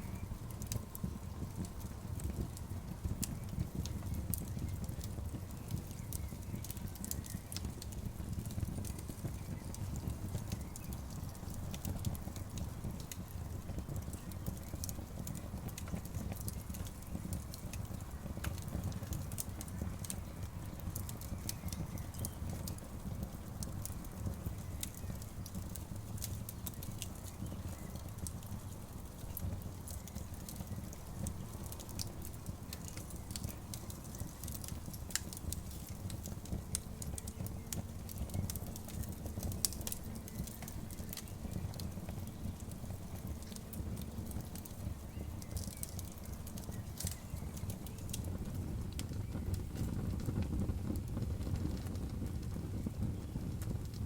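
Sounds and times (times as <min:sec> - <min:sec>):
campfire crackling and popping: 0:00.0 - 0:54.0
low fire rumble: 0:00.0 - 0:54.0.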